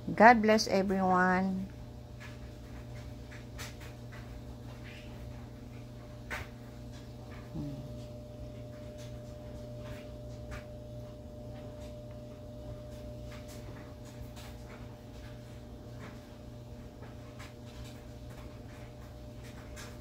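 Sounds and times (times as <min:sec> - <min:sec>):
thin steady whine: 0:00.0 - 0:18.9
steady low hum: 0:00.0 - 0:20.0.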